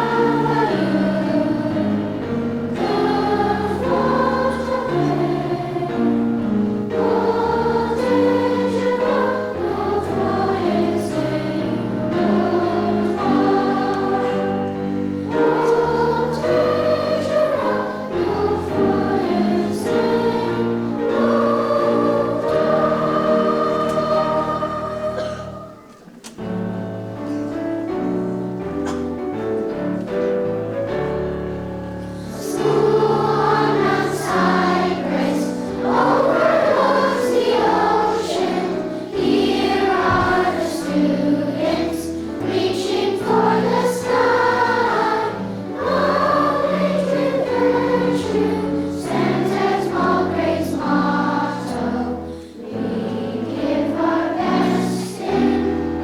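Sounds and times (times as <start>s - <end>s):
group of voices singing: 0.0s - 26.1s, 32.2s - 56.0s
musical accompaniment: 0.0s - 56.0s.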